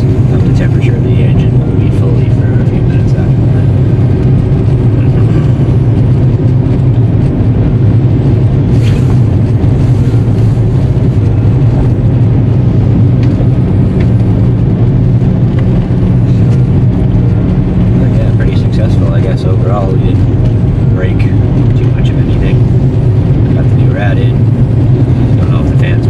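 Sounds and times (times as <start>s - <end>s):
diesel engine drone in car: 0.0s - 26.0s
road noise: 0.0s - 26.0s.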